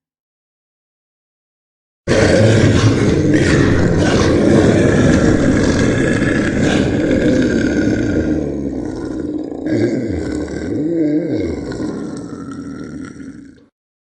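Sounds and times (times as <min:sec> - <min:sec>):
dinosaur roar: 0:02.1 - 0:13.7
low growl: 0:02.1 - 0:13.7.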